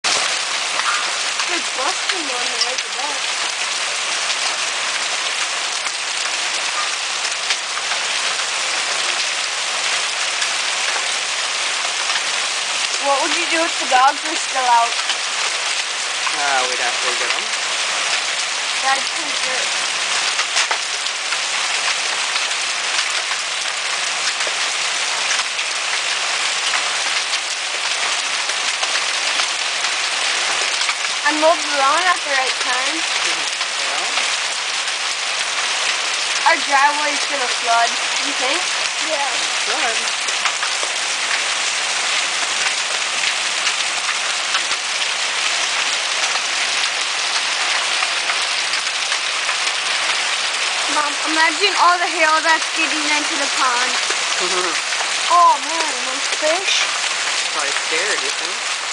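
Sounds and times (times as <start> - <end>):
hailstones ticking: 0.0 - 58.9
heavy rain hissing: 0.0 - 58.9.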